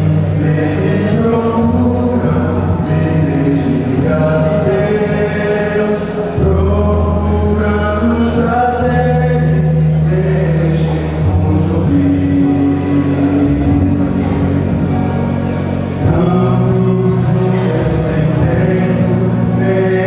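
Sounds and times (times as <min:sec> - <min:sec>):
male quartet singing a hymn: 0:00.0 - 0:14.9, 0:15.9 - 0:20.0.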